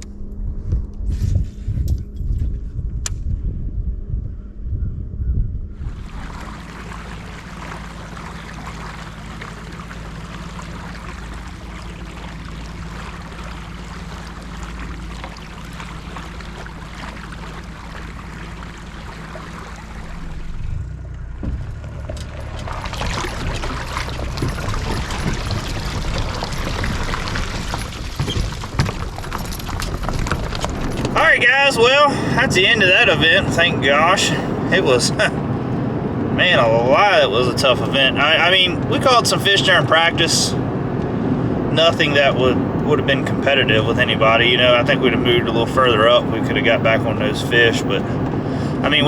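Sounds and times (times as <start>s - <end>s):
low hum: 0.0s - 49.0s
water rushing along a boat: 5.8s - 49.0s.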